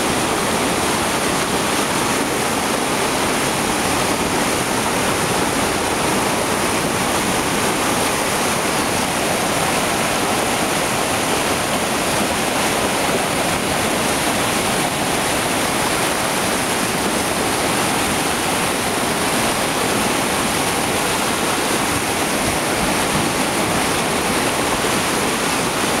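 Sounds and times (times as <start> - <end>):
flooded river rushing: 0.0 - 26.0.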